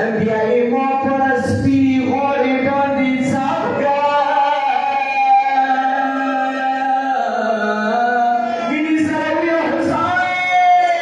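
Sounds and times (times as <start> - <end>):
man chanting a lament: 0.0 - 11.0.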